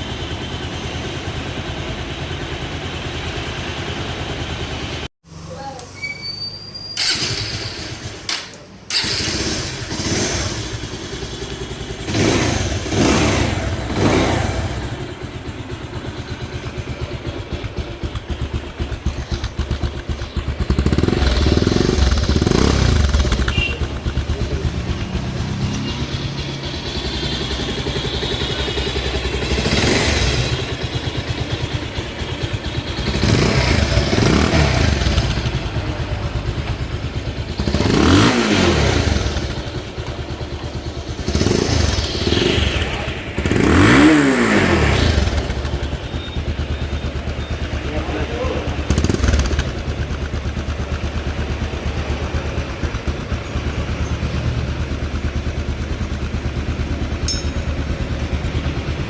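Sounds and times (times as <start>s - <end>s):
motorcycle engine idling and revving: 0.0s - 6.0s, 7.0s - 59.0s.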